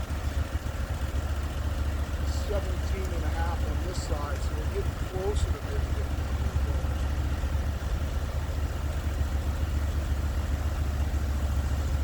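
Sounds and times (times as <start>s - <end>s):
sawmill engine humming: 0.0s - 12.0s.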